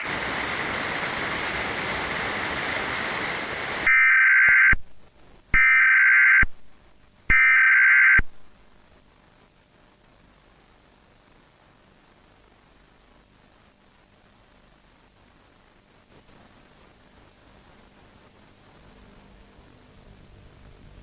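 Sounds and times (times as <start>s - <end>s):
static hiss: 0.0s - 21.0s.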